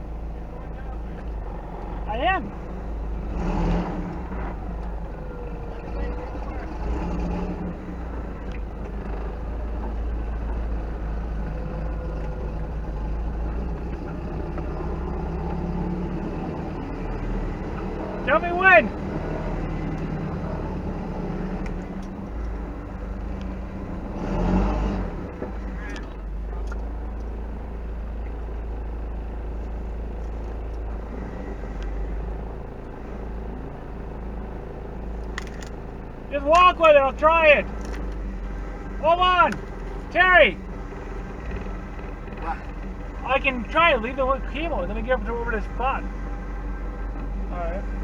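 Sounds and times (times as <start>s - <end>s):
truck engine running at low revs: 0.0s - 48.0s.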